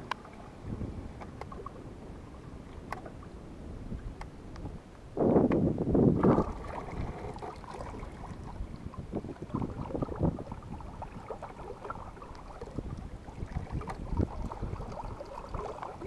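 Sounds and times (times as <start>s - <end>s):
water noise: 0.0s - 16.0s
wind on microphone: 0.0s - 16.0s.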